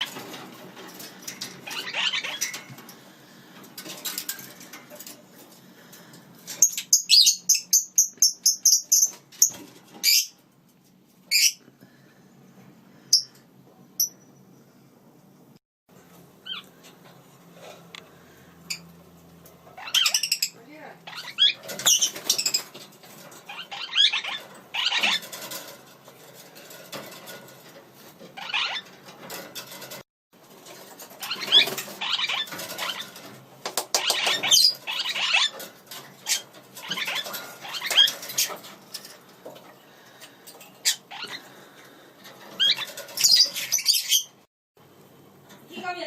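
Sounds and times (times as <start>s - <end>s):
parakeets chirping and warbling: 0.0s - 10.5s, 11.2s - 12.0s, 16.1s - 44.5s.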